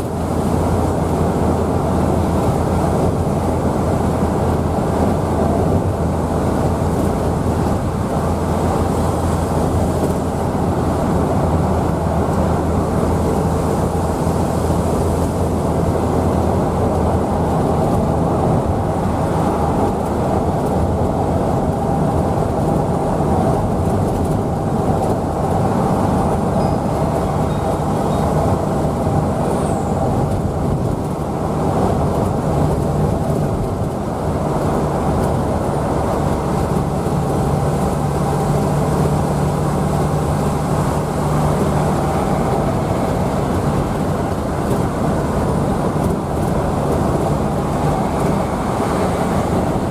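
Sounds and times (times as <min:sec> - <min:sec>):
road noise: 0:00.0 - 0:49.9
vehicle engine hum: 0:00.0 - 0:49.9.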